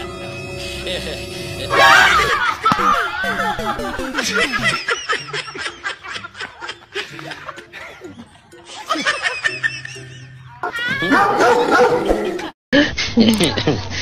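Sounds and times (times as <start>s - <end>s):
background music: 0.0s - 12.5s
high-pitched laughter: 0.8s - 14.0s.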